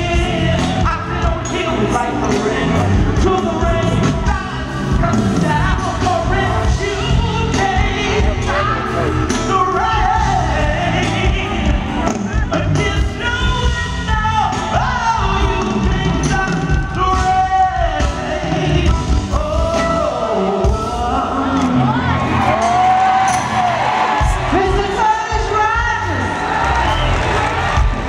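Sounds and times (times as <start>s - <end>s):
man singing into microphone: 0.0s - 23.4s
soul band playing: 0.0s - 28.0s
steady drum beat: 0.0s - 28.0s.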